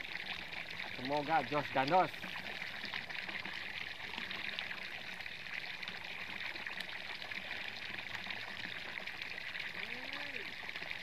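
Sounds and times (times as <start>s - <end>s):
water pouring into canal: 0.0s - 11.0s.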